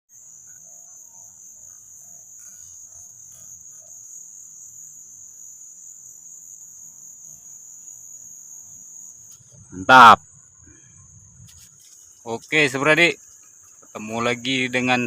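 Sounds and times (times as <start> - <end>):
high-pitched insect drone: 0.1 - 15.0.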